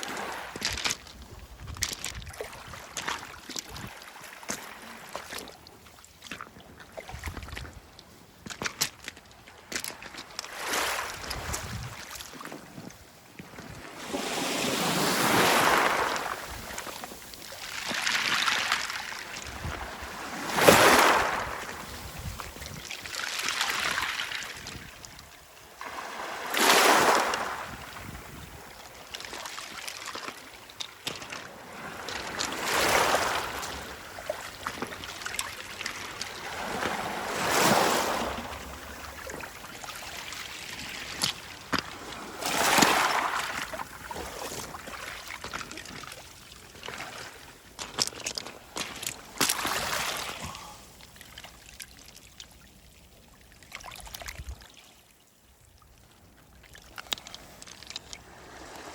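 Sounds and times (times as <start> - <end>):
wave splash: 0.0 - 5.6, 9.1 - 12.6, 13.5 - 50.9, 56.9 - 58.9
waves washing over stones: 0.0 - 51.6, 56.5 - 58.9.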